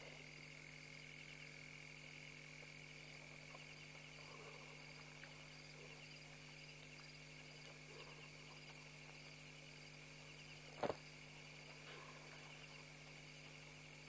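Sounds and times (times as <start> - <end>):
frogs calling: 0.0 - 14.0
low steady hum: 0.0 - 14.0.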